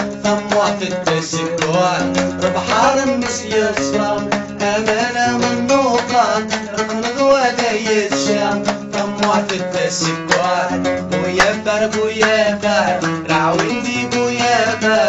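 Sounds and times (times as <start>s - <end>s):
man singing: 0.0s - 15.0s
plucked acoustic guitar: 0.0s - 15.0s.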